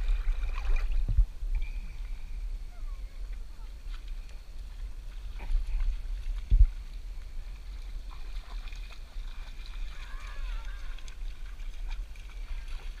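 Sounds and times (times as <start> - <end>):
river water sloshing: 0.0 - 13.0.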